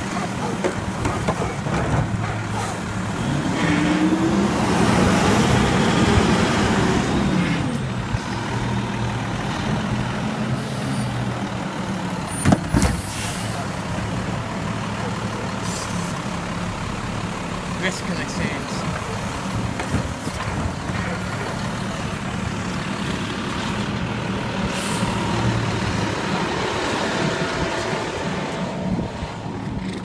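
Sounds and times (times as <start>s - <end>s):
garbage truck diesel engine: 0.0s - 30.0s.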